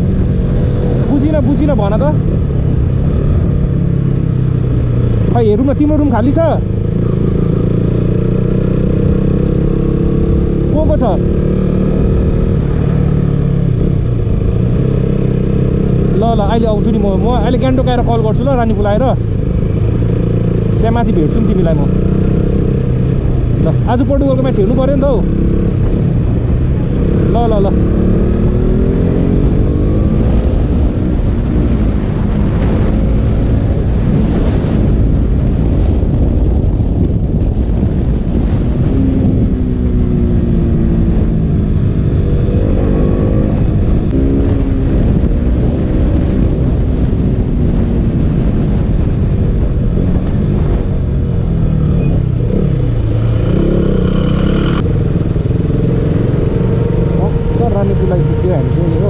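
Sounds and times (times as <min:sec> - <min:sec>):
motorcycle engine revving: 0:00.0 - 0:59.0
rushing wind noise: 0:00.0 - 0:59.0.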